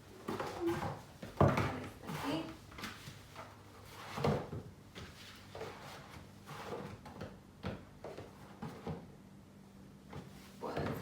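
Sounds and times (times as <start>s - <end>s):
decorations knocking and scraping: 0.1s - 9.1s.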